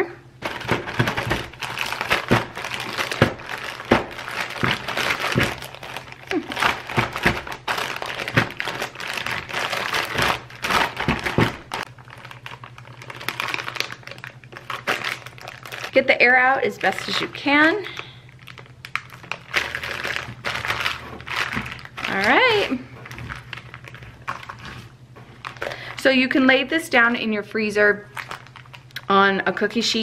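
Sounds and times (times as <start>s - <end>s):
plastic freezer bag crinkling: 0.0s - 30.0s.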